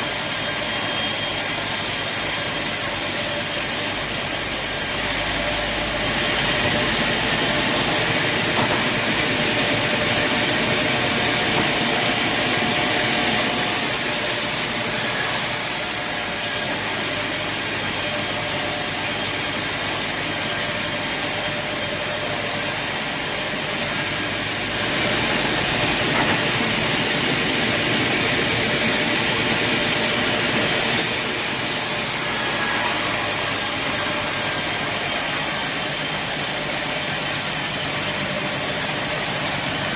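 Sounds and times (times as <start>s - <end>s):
band sawmill sawing wood: 0.0s - 39.9s.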